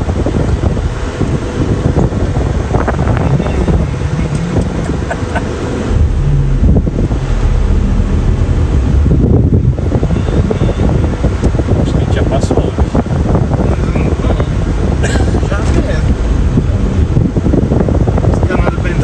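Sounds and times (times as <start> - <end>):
road and engine rumble: 0.0 - 19.0
wind buffeting microphone: 0.0 - 19.0.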